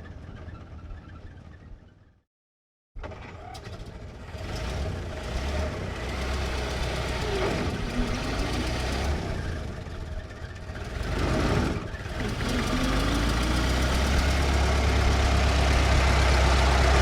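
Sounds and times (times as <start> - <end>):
car engine starting and idling: 3.0 - 17.0.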